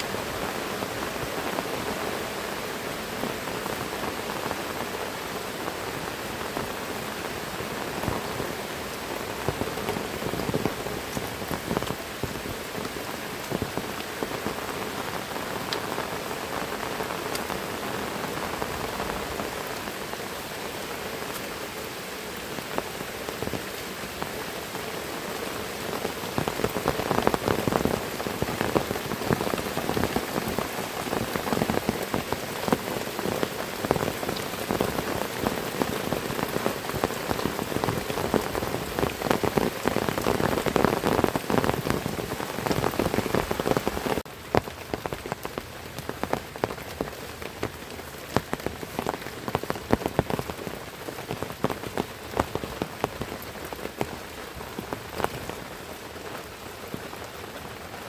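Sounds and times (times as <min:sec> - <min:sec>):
heavy rain falling: 0:00.0 - 0:58.0
raindrops tapping on surfaces: 0:00.0 - 0:58.0.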